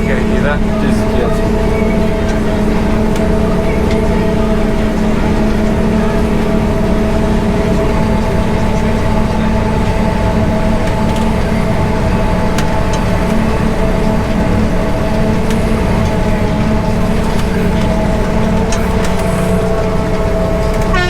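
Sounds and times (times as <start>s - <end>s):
diesel farm machinery droning: 0.0s - 21.0s.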